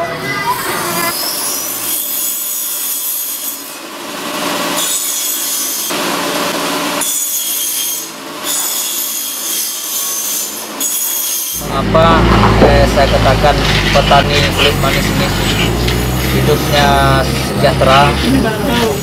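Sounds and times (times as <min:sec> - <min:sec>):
power saw cutting with whine: 0:00.6 - 0:19.0.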